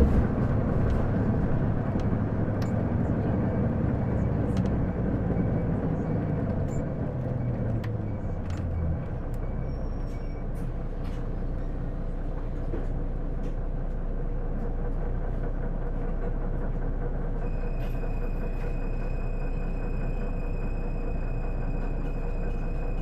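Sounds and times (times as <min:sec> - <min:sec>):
bus cabin noise: 0:00.0 - 0:23.0
bus engine rumble: 0:00.0 - 0:23.0.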